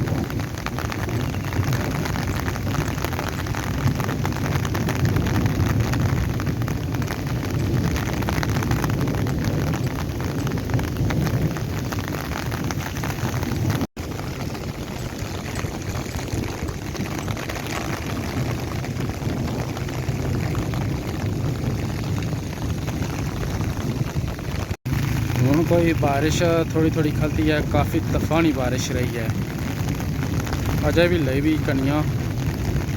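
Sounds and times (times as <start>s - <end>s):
heavy rain falling: 0.0s - 32.9s
wind rumbling on microphone: 0.0s - 32.9s.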